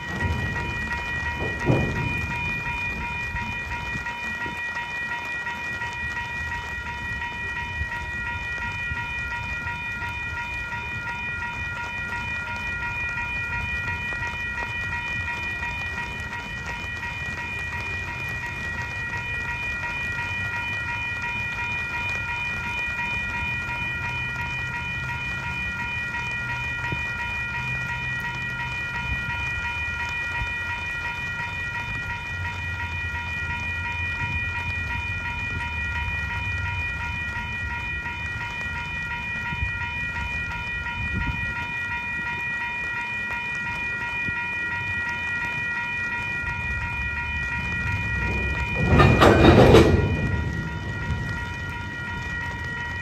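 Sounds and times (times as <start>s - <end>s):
crossing warning bell ringing: 0.0s - 53.0s
freight train rumbling: 0.0s - 53.0s.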